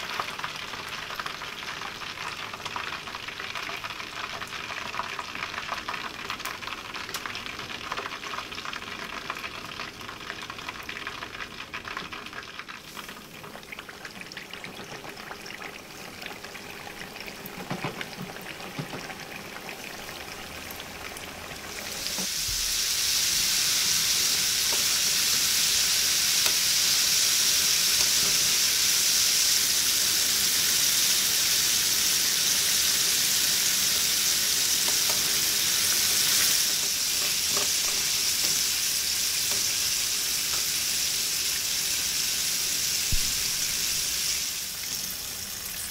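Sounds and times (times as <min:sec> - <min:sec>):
chicken frying in hot oil: 0:00.0 - 0:45.9.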